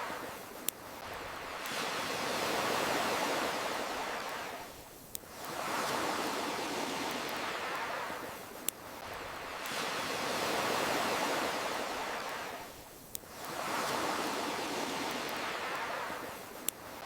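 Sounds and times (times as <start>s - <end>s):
campfire crackle: 0.0s - 17.0s
ocean surf washing: 0.0s - 17.0s.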